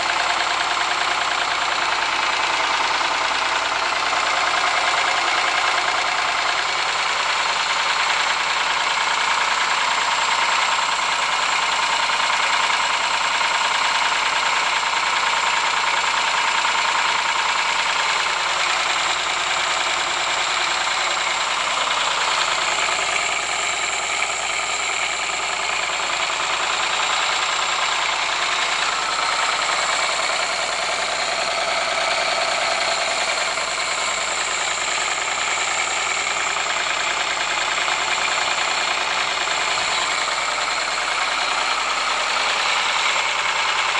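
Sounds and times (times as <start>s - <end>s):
car engine knocking: 0.0s - 43.9s.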